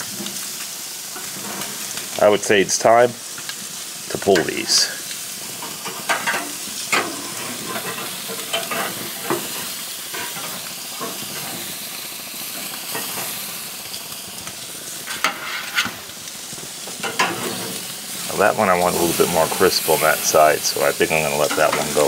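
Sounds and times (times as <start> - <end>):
meat sizzling on grill: 0.0 - 22.0.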